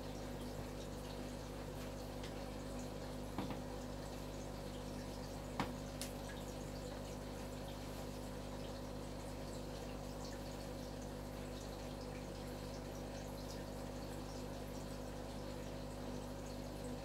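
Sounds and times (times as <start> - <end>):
aquarium equipment humming: 0.0 - 17.0
water trickling: 0.0 - 17.0.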